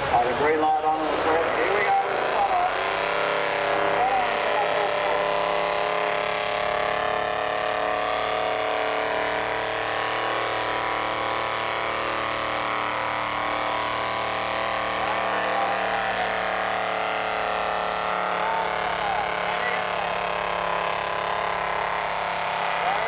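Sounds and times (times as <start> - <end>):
truck engine running hard: 0.0 - 23.0.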